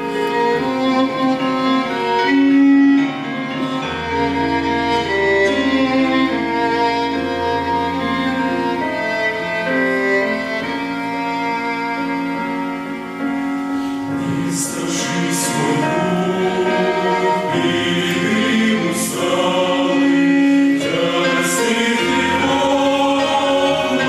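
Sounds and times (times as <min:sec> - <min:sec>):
bowed strings melody: 0:00.0 - 0:24.0.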